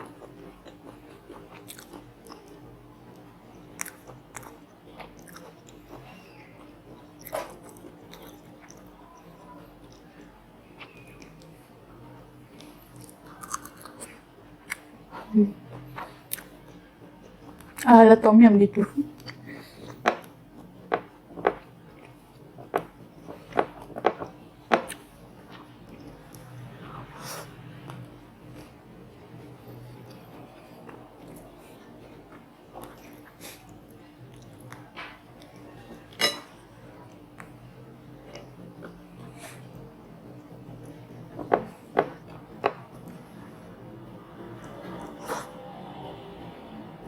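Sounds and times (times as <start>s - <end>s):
chewing and crunching fried food: 0.0s - 18.1s, 18.8s - 46.6s.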